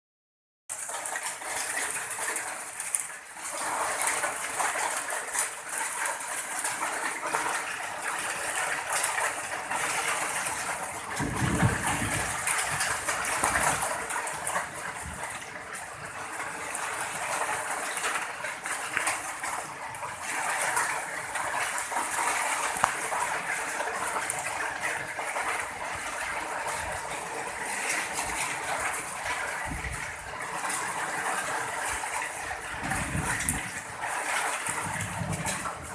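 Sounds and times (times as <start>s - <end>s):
heavy rain in windy storm: 0.7s - 35.9s.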